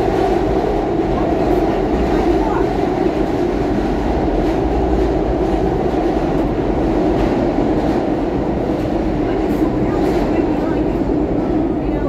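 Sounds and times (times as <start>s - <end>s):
subway train wheels rumbling on rail: 0.0s - 12.0s.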